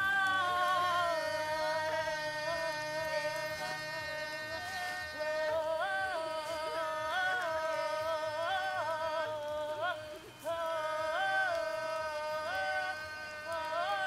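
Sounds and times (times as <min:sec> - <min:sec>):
wordless singing: 0:00.0 - 0:14.0.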